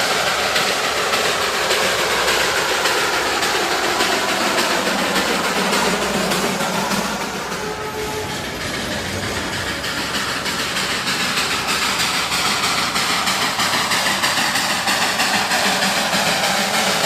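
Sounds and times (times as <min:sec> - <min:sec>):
train rumbling with regular beat: 0:00.0 - 0:17.0.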